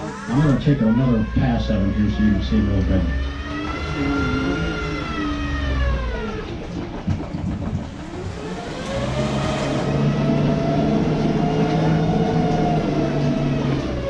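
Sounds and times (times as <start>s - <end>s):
boat motor whine: 0.0s - 14.0s
low hum: 0.0s - 14.0s.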